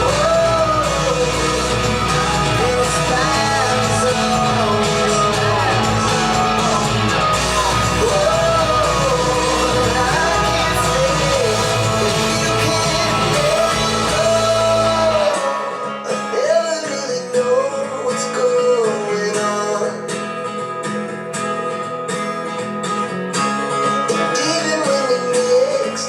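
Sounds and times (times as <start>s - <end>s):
person singing: 0.0s - 20.2s, 24.0s - 26.0s
plucked guitar: 0.0s - 26.0s.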